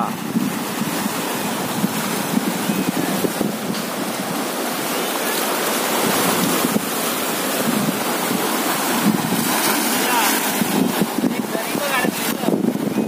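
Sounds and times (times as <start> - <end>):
sea waves washing ashore: 0.0 - 13.0
wind buffeting microphone: 0.0 - 13.0.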